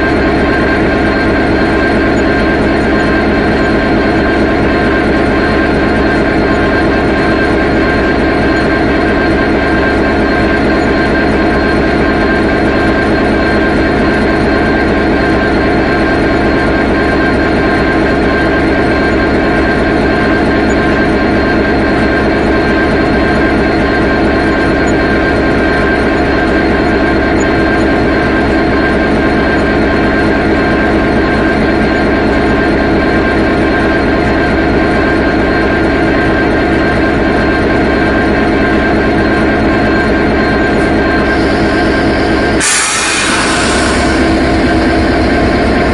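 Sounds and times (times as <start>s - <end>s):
diesel locomotive engine droning: 0.0s - 45.9s.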